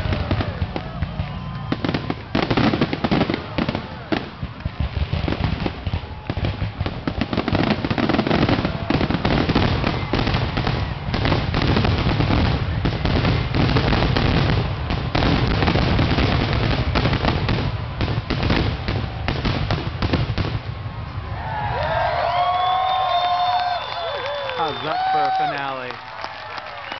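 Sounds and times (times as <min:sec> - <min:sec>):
fireworks booming and crackling: 0:00.0 - 0:24.9.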